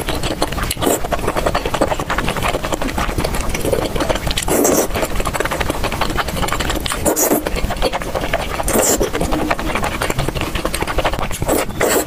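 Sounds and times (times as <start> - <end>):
wet chewing mouth clicks and smacks: 0.0 - 12.0.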